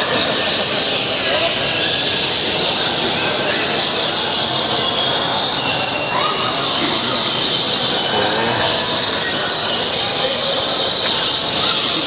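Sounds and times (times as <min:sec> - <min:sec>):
songbirds chirping chorus: 0:00.1 - 0:12.0.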